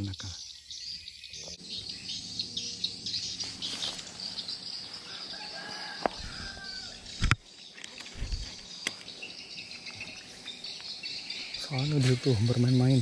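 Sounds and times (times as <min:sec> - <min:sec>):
bird calls: 0:00.0 - 0:13.0
insects chirring: 0:00.0 - 0:13.0.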